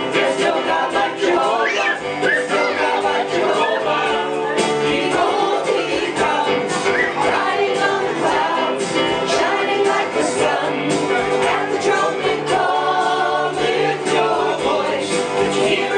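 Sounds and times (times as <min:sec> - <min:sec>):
song with singing over instruments: 0:00.0 - 0:15.9.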